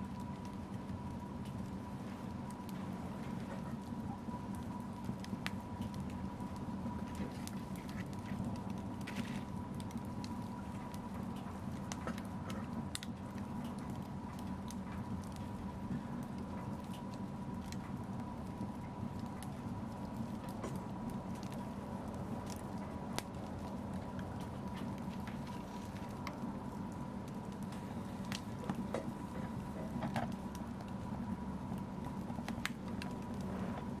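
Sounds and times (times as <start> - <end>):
low roar of flames: 0.0 - 34.0
wood fire crackling: 0.0 - 34.0.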